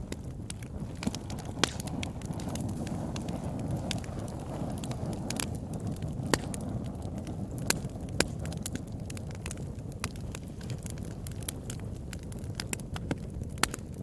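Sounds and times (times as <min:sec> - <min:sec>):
low rush of flames: 0:00.0 - 0:14.0
wood crackling and popping: 0:00.0 - 0:14.0.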